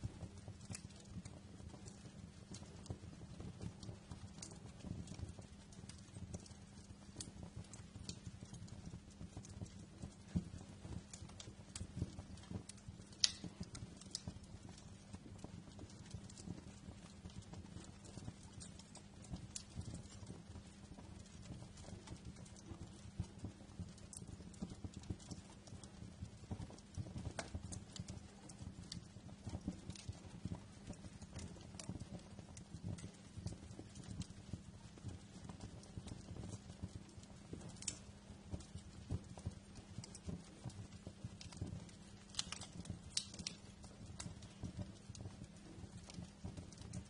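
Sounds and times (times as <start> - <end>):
low fire rumble: 0.0 - 47.0
wood fire crackling: 0.0 - 47.0.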